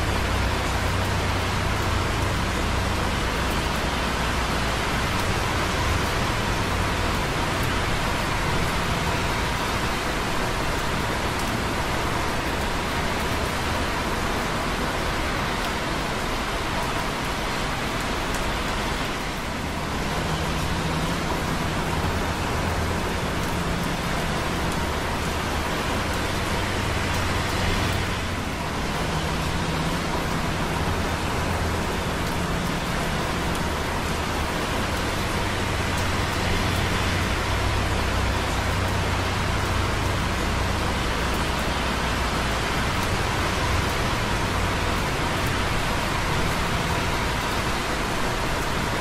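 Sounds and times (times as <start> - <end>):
light rain hissing: 0.0 - 49.0
rain dripping on concrete: 0.0 - 49.0
traffic on wet roads: 0.0 - 49.0.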